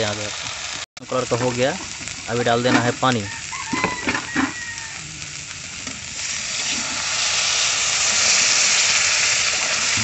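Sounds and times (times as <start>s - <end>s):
water hissing in hot oil: 0.0s - 10.0s.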